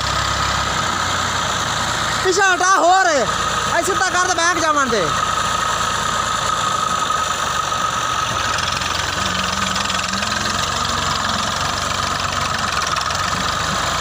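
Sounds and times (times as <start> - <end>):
tractor diesel engine running: 0.0 - 14.0
steady high whine: 1.0 - 14.0.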